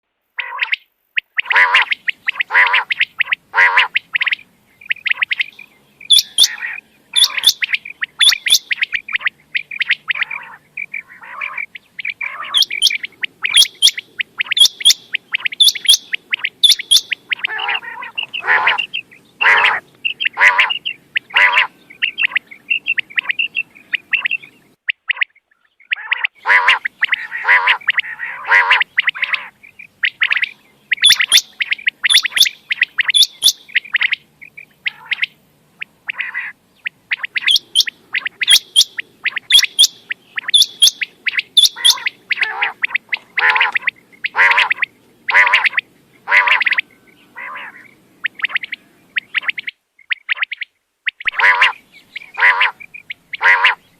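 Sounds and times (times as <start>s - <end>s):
quail calling: 0.4s - 53.9s.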